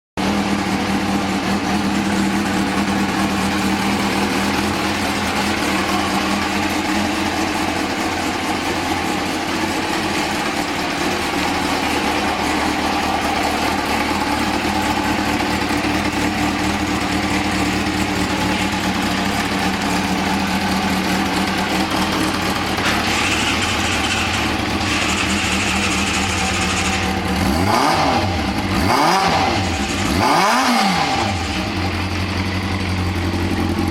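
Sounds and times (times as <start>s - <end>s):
motorcycle engine idling and revving: 0.2s - 33.9s.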